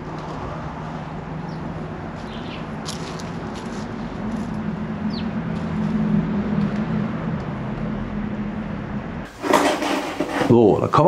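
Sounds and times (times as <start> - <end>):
low hum of road traffic: 0.0 - 11.0.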